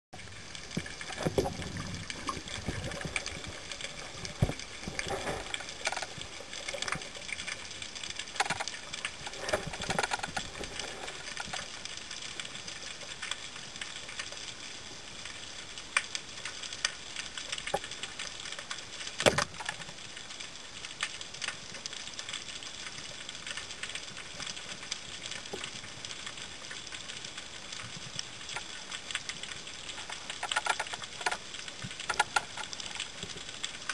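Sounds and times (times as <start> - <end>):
crackling clicks underwater: 0.2 - 33.9
underwater rush of water: 0.2 - 33.9.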